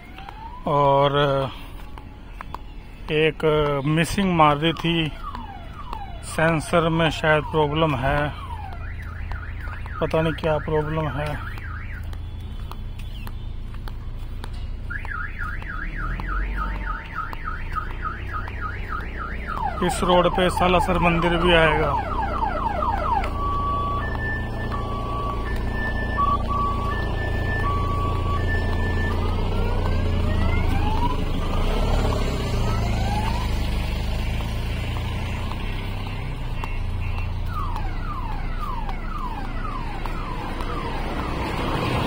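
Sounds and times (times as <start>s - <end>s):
low traffic rumble: 0.0s - 42.0s
vehicles accelerating: 0.0s - 42.0s
car alarm wailing: 2.9s - 12.6s, 14.8s - 33.9s, 34.9s - 42.0s.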